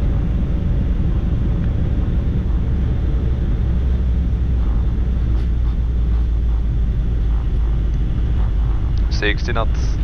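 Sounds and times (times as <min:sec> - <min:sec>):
airliner rolling low rumble: 0:00.0 - 0:10.0.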